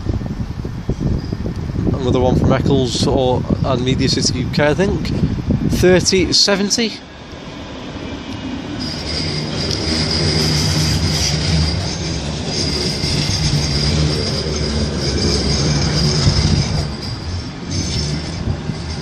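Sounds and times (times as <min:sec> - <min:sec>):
low hum of running gear: 0:00.0 - 0:19.0
tram wheel squeal: 0:00.0 - 0:19.0.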